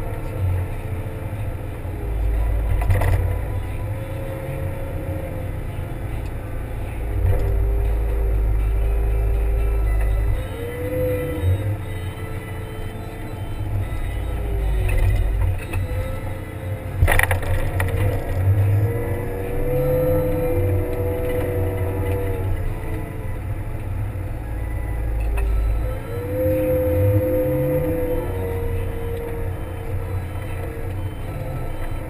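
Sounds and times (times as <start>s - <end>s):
wheel loader engine under load: 0.0s - 32.0s
whine rising and falling: 0.0s - 32.0s.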